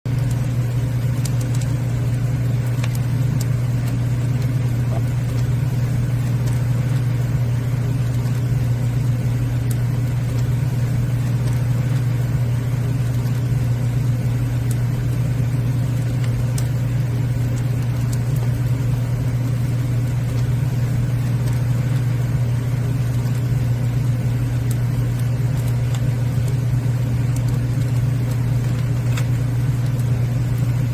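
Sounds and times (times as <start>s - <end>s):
fire crackles: 0.1s - 30.9s
fire rumbling: 0.1s - 30.9s.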